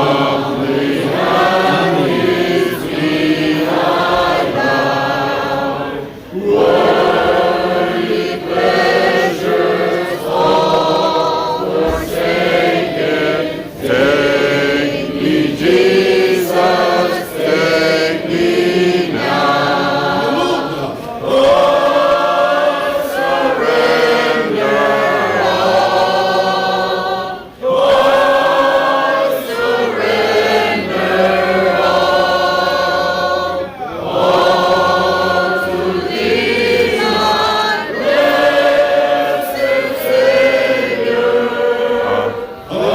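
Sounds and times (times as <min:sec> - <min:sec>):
congregation singing a hymn: 0:00.0 - 0:42.9.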